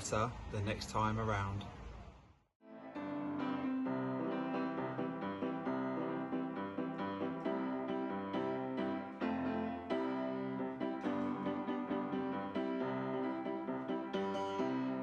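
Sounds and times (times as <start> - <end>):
gentle piano music: 2.6 - 15.0.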